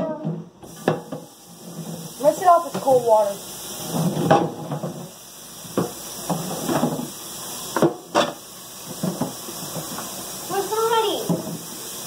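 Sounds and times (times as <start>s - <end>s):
tap water running: 0.0s - 12.0s
hot pan hissing and steaming: 0.6s - 12.0s.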